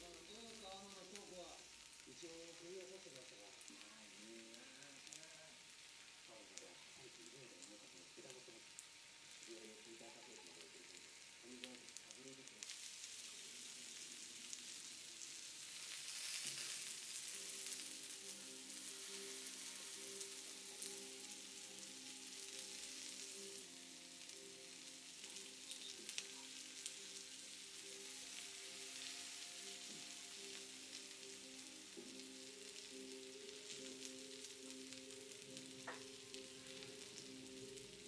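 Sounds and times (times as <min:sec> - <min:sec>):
meat sizzling on a grill: 0:00.0 - 0:38.0
soft instrumental music: 0:00.0 - 0:38.0.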